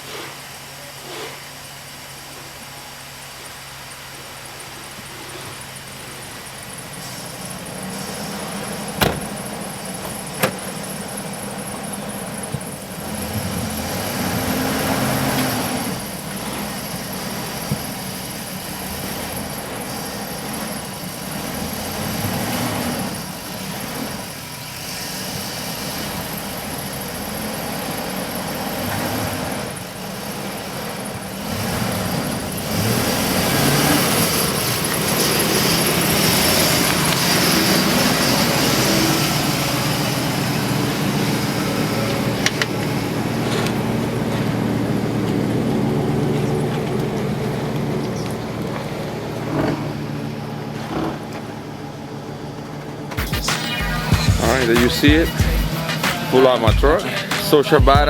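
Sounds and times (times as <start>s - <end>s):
van engine revving: 0.0s - 58.0s.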